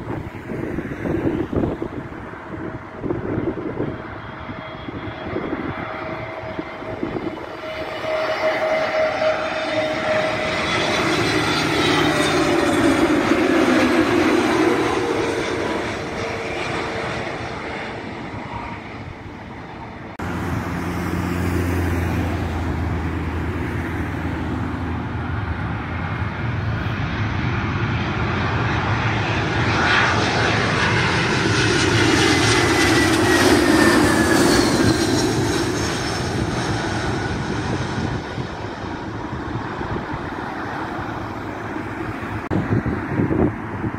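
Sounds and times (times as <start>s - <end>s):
jet airliners flying low: 0.0s - 43.9s.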